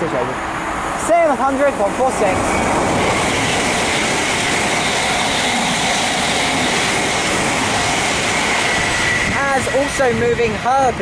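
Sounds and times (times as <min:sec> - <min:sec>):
high whine: 0:00.0 - 0:11.0
train rushing through station: 0:00.0 - 0:11.0.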